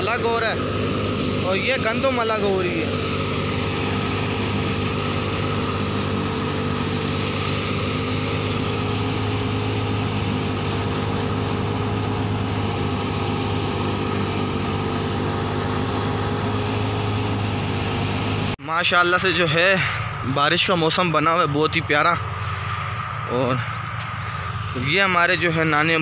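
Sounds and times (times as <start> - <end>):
thresher mechanical hum: 0.0 - 26.0.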